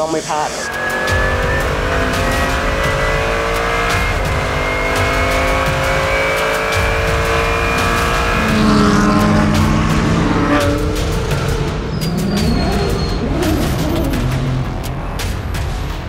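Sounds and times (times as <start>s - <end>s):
race car engine from cockpit: 0.0s - 15.8s.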